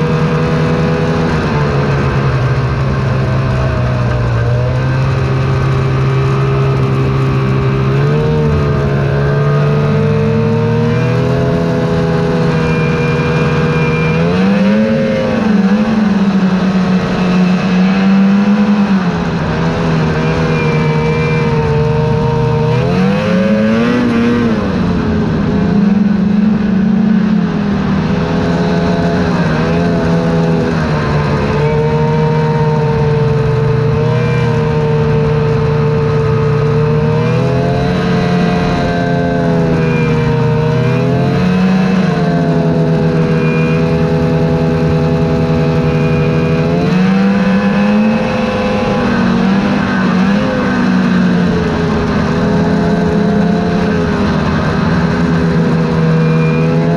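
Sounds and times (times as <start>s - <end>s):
snowmobile engine revving: 0.0s - 56.9s.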